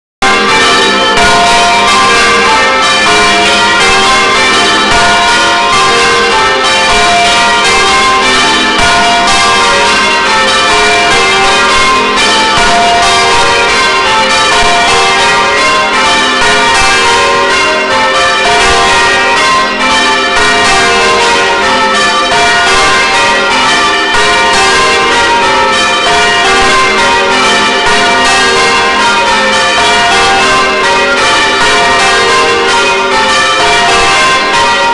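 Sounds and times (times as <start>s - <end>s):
church bells ringing: 0.2s - 34.9s.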